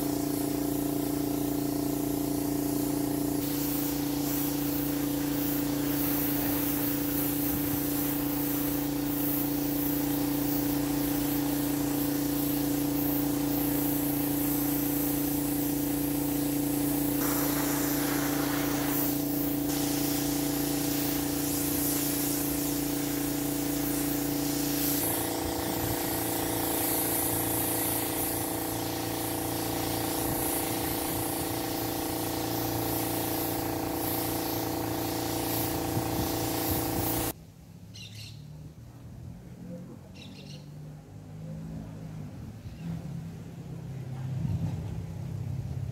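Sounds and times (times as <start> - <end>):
air compressor humming: 0.0 - 37.4
spray gun hissing: 0.0 - 37.4.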